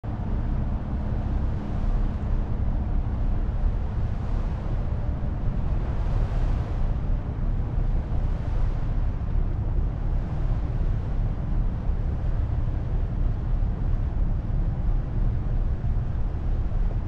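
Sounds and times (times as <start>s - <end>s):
boat engine rumbling: 0.1s - 17.0s
wind buffeting microphone: 0.1s - 17.0s.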